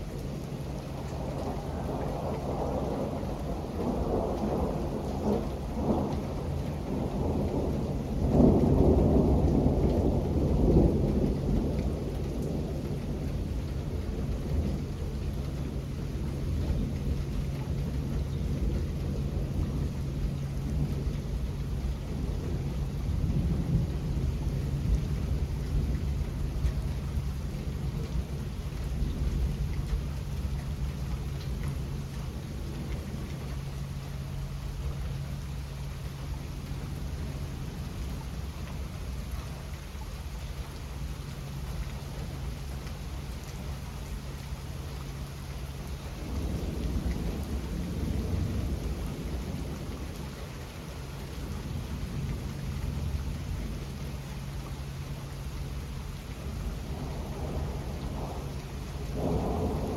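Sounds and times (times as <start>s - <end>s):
low rumbling thunder: 0.0s - 59.9s
steady rain: 0.0s - 59.9s.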